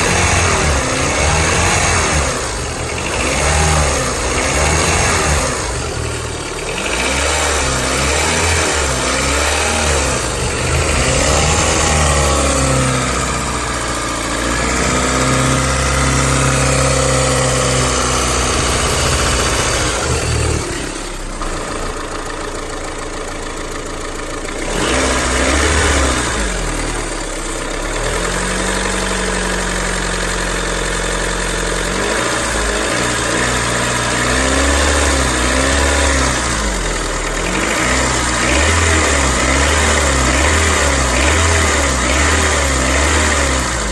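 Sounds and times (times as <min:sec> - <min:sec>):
car engine revving and idling: 0:00.0 - 0:43.9.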